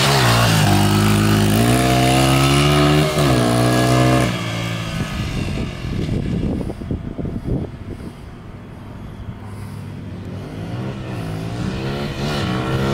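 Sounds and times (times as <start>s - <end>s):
dirt bike accelerating: 0.0s - 12.9s.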